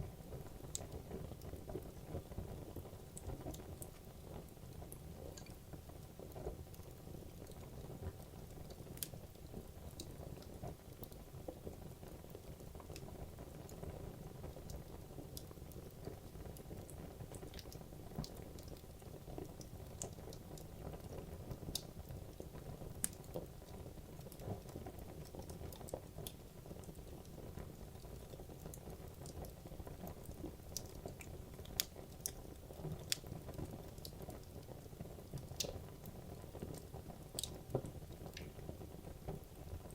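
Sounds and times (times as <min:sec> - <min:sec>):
wood crackling and popping: 0:00.0 - 0:39.9.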